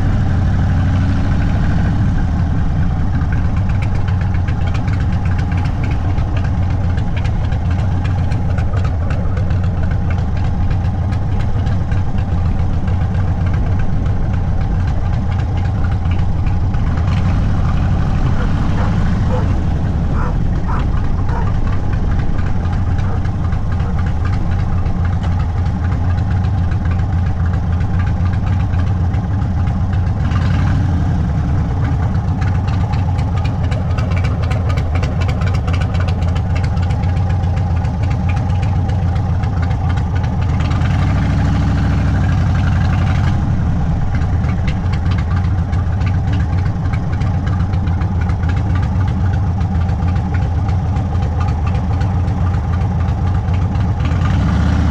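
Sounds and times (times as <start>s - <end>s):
motorcycle engine running loud: 0.0s - 54.9s.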